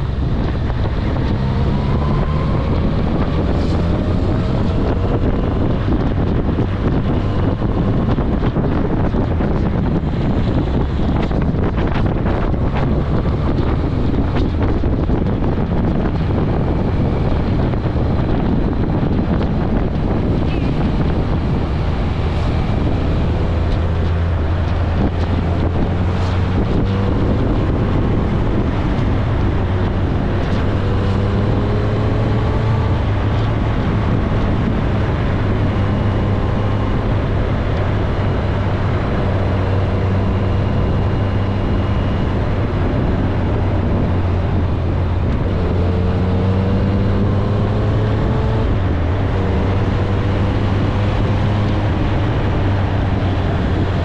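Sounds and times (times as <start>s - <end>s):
motorcycle engine accelerating: 0.0s - 54.0s
wind rushing over microphone: 0.0s - 54.0s.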